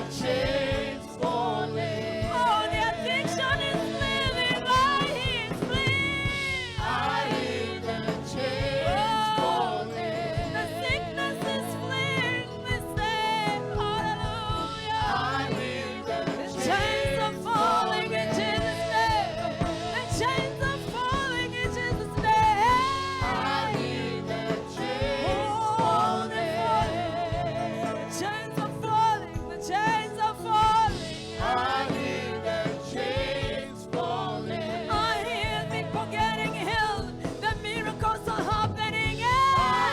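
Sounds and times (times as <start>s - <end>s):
gospel singing: 0.0s - 39.9s
instrumental accompaniment: 0.0s - 39.9s.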